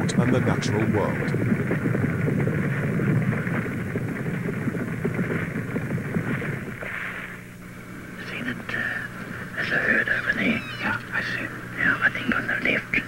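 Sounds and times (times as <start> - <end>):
crackling rumbling background noise: 0.0 - 13.0
low hum: 0.0 - 13.0.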